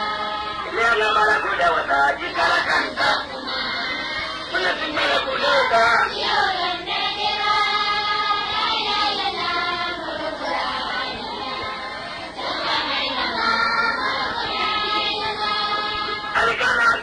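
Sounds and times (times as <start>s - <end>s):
chorus singing devotional song: 0.0s - 17.0s.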